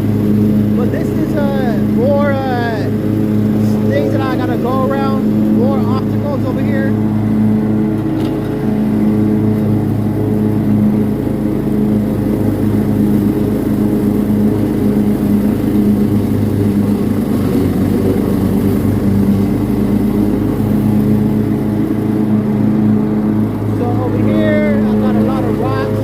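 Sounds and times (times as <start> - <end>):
riding lawn mower engine running: 0.0 - 26.0.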